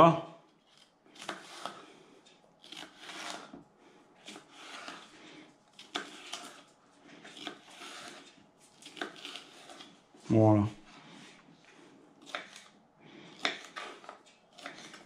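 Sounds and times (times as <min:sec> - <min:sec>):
knife scraping and crunching pepper: 0:00.6 - 0:10.1, 0:12.2 - 0:15.0.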